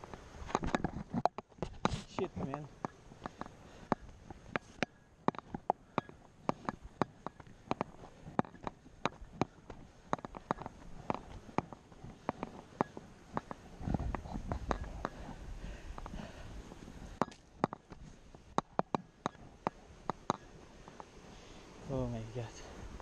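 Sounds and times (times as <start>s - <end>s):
sharp clicks and knocks: 0.0s - 15.3s, 17.2s - 21.1s.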